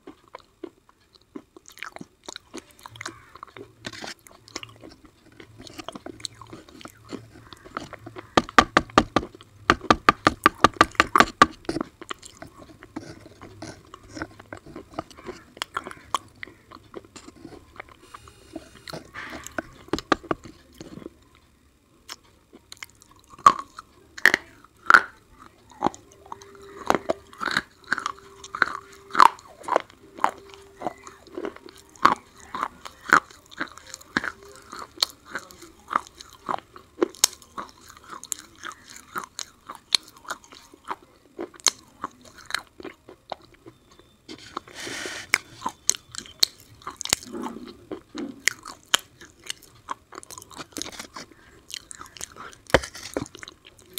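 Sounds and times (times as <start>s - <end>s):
crisp crunchy chewing: 0.0s - 53.9s.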